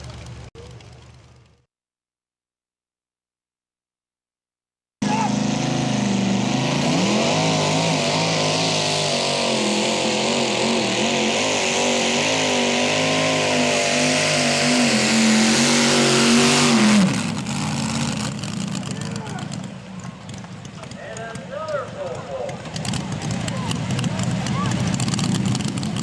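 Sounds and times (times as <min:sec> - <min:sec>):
tractor engine howling at full throttle: 0:05.0 - 0:26.0.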